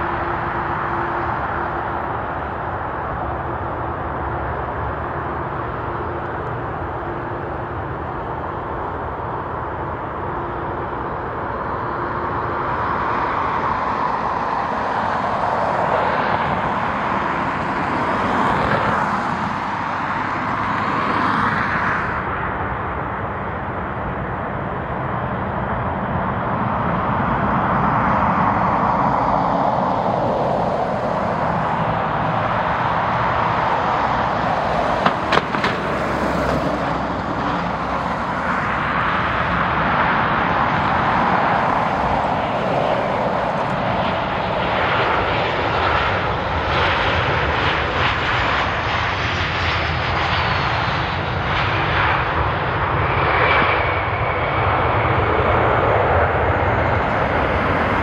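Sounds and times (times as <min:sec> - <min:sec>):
jet airliner passing: 0:00.0 - 0:58.0.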